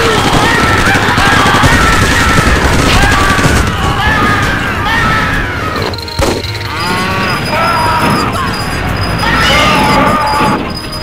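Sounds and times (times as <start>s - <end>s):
battle crashes and bangs: 0.0s - 11.0s
voices shouting: 0.0s - 11.0s.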